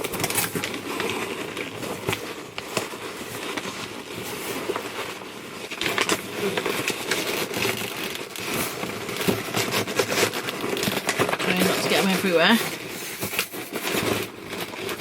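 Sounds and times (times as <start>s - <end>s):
foam packing peanuts rustling: 0.0s - 15.0s.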